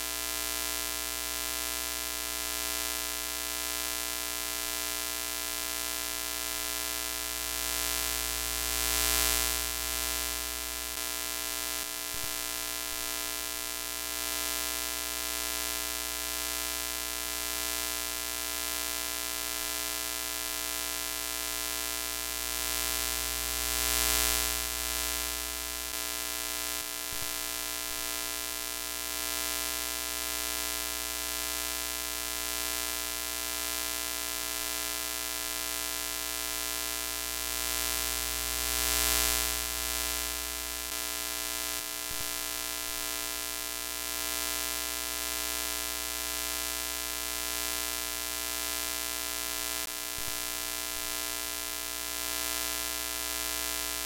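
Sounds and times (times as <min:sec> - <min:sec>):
electrical buzzing hum: 0:00.0 - 0:54.0.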